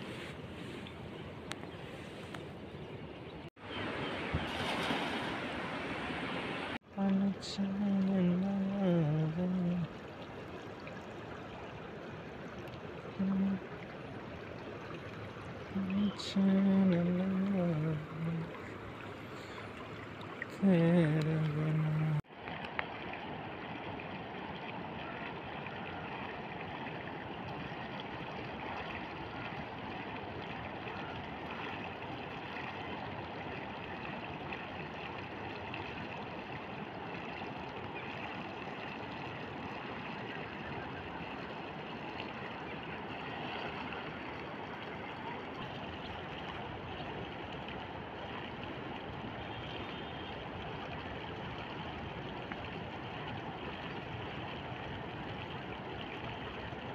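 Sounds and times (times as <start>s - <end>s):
shallow river rushing: 0.0s - 7.7s, 9.6s - 56.9s.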